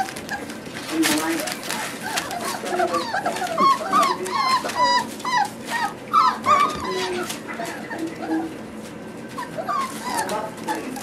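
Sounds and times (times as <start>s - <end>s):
puppies whining and yipping: 0.0s - 11.0s.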